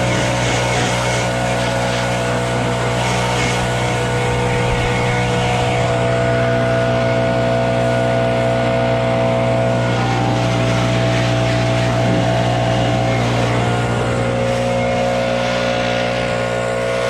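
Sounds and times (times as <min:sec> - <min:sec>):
engine-driven blower running: 0:00.0 - 0:17.0.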